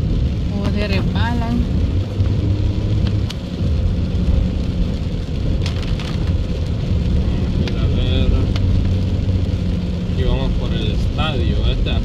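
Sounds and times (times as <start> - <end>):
car engine running: 0.0 - 12.0
heavy rain on car roof: 0.0 - 12.0
tyres on wet road: 0.0 - 12.0.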